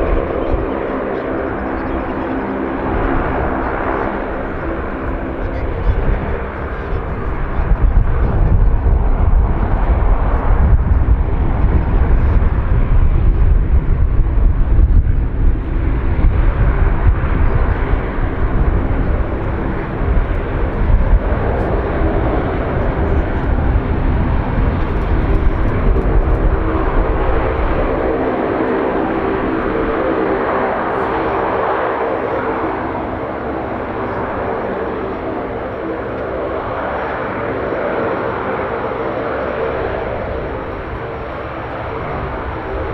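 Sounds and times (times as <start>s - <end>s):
propeller aircraft engines droning: 0.0s - 42.9s.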